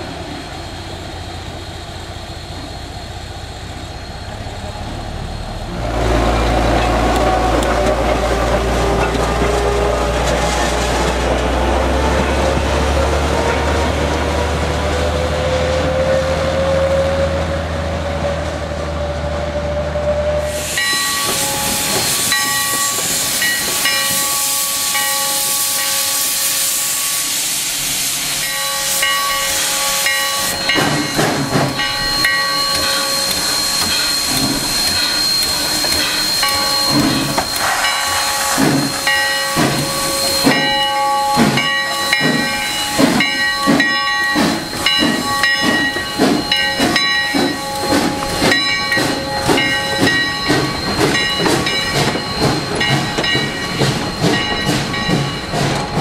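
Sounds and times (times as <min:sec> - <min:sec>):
diesel locomotive humming and whining: 0:00.0 - 0:56.0
steam locomotive hissing steam: 0:00.0 - 0:56.0.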